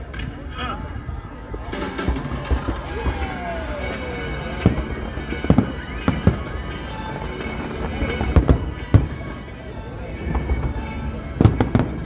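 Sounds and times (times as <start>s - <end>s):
background music: 0.0s - 12.0s
distant fireworks booming: 0.0s - 12.0s.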